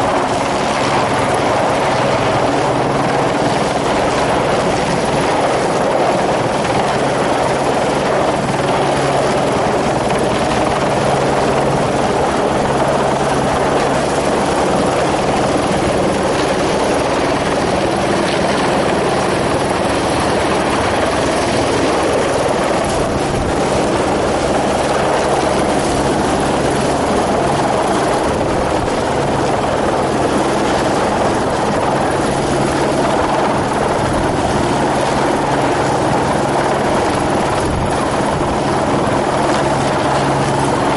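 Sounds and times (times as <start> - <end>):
helicopter drone: 0.0 - 40.9.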